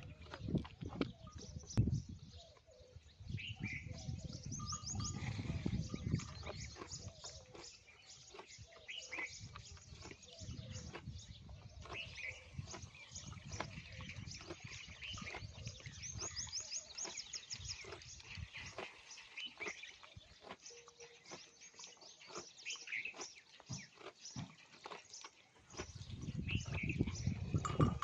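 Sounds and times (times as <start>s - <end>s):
birds chirping: 0.0s - 28.0s
camel chewing: 0.0s - 28.0s.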